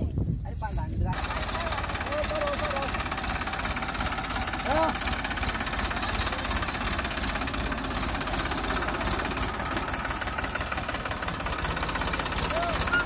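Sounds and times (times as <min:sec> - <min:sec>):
tractor diesel engine running: 0:01.0 - 0:13.0.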